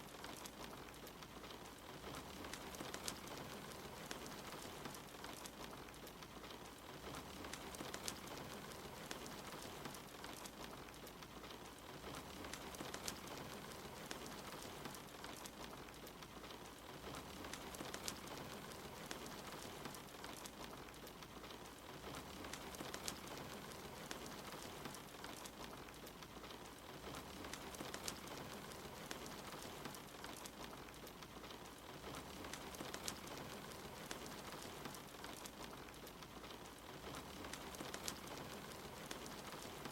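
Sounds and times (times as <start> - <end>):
crackling fireplace fire: 0.0 - 39.9
sharp fire pops: 0.0 - 39.9
steady rain falling: 0.0 - 39.9.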